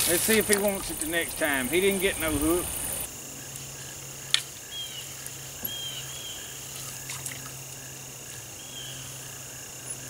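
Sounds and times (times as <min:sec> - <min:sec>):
crickets and insects trilling: 0:00.0 - 0:10.0.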